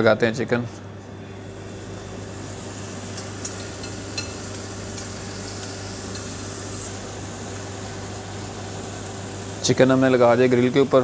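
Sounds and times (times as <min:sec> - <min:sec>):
chicken sizzling on a grill: 0:01.3 - 0:11.0.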